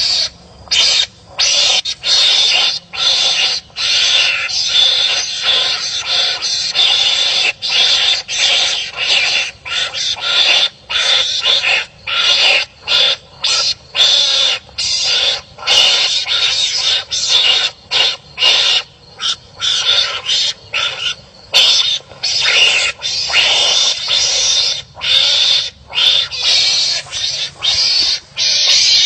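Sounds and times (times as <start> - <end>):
harsh raspy animal calls: 0.0 - 29.0.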